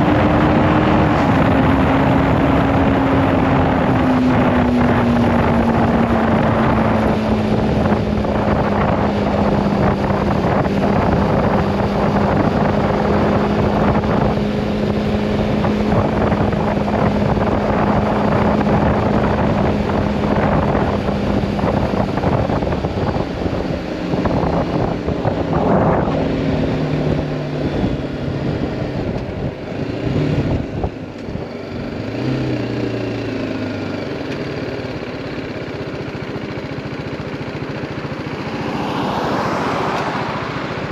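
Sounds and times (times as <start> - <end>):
wind rushing over microphone: 0.0 - 32.7, 38.2 - 40.9
motorcycle engine running: 0.0 - 40.9.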